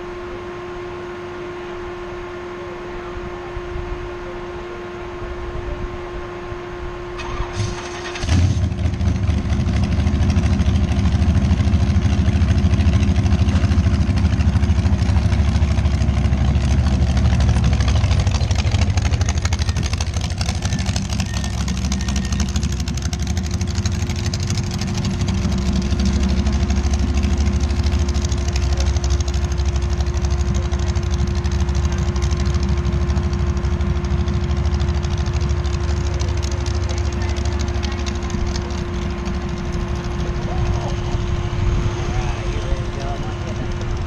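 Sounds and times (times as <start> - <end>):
steady hum: 0.0 - 44.0
dragster engine idling: 6.8 - 44.0.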